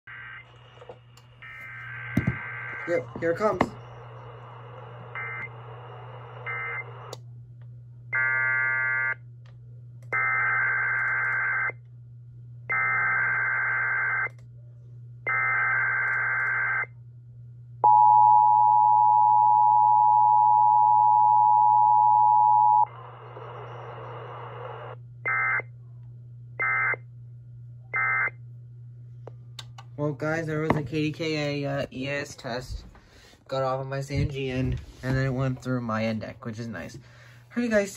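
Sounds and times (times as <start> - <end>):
low hum: 0.1 - 37.9.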